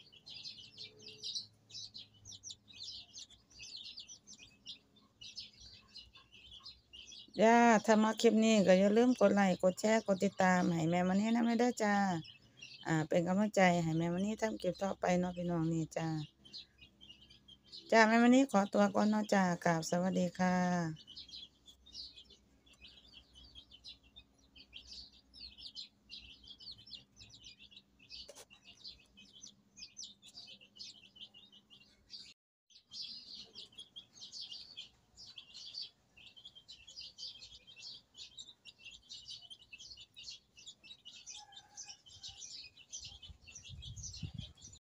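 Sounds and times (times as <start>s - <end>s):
small birds chirping: 0.0s - 44.8s.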